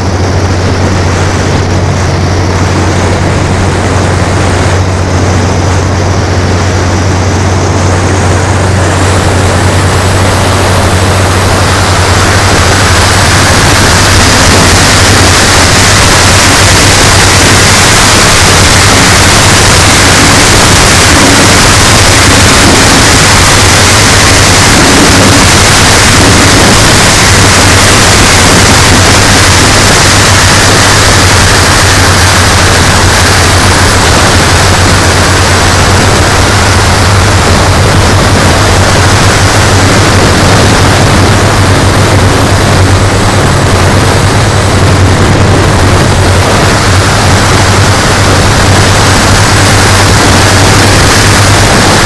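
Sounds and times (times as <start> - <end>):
low hum: 0.0 - 52.0
model aircraft engine hissing: 0.0 - 52.0.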